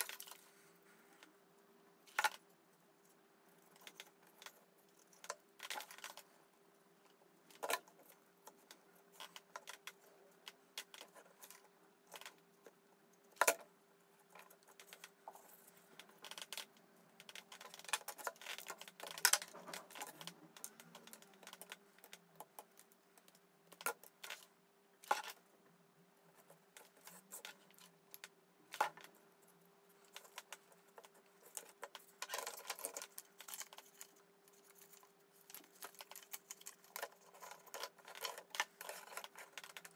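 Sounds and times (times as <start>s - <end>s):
faint steady hum: 0.0s - 39.9s
model parts tapping and rustling: 3.6s - 6.4s, 7.0s - 25.5s, 26.3s - 39.9s.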